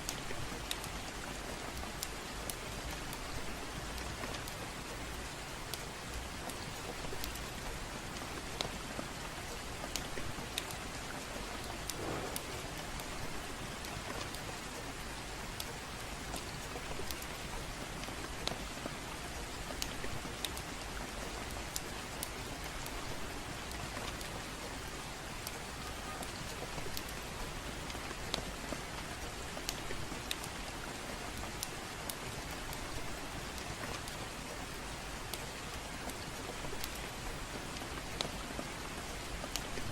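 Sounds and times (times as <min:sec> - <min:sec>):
gentle rain hissing: 0:00.0 - 0:39.9
wood fire crackling: 0:00.1 - 0:39.9.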